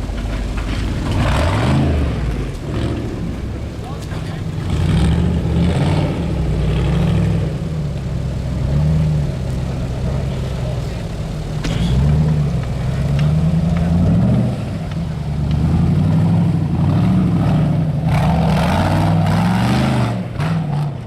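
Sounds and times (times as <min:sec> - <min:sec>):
rushing noise: 0:00.0 - 0:21.0
vehicle engine revving: 0:00.0 - 0:21.0.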